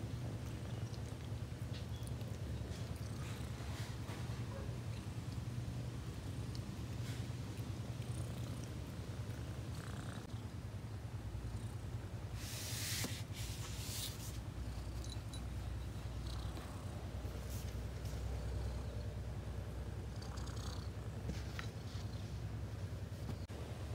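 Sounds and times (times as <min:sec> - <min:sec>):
cat purring: 0:00.1 - 0:12.2, 0:14.4 - 0:23.4.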